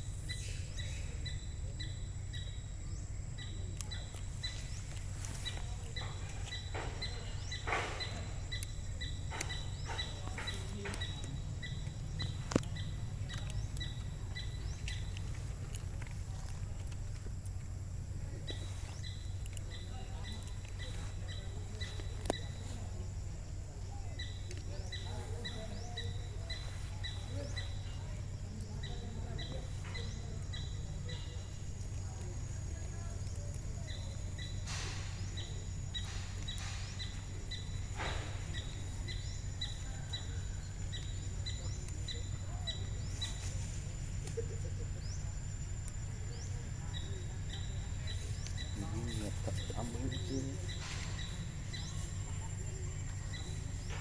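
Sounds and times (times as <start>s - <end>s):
bird chirping: 0.0s - 54.0s
low outdoor rumble: 0.0s - 54.0s
steady low hum: 0.0s - 54.0s.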